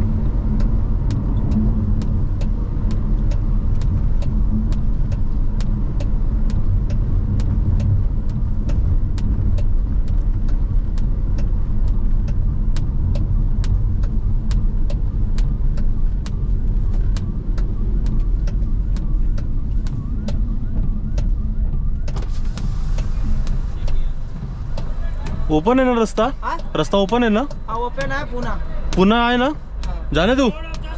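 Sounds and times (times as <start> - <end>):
engine and road rumble: 0.0 - 30.9
indicator relay ticking: 0.0 - 30.9.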